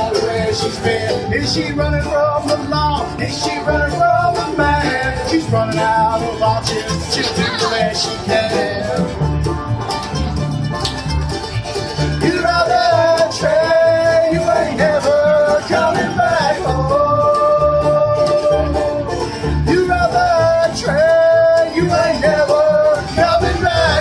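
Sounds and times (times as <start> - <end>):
voices singing in harmony: 0.0 - 9.1, 12.2 - 24.0
bluegrass band playing: 0.0 - 24.0
plucked upright bass: 0.0 - 24.0.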